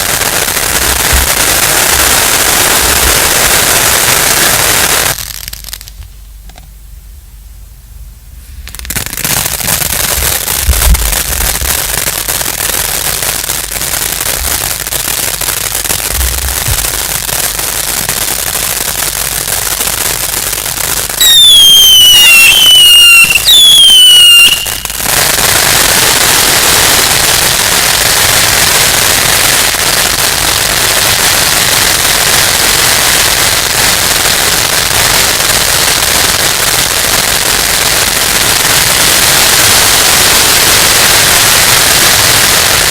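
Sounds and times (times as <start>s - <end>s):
fireworks whistles falling in pitch: 0.0s - 5.9s, 8.5s - 42.9s
fireworks crackling: 0.0s - 6.2s, 8.4s - 42.9s.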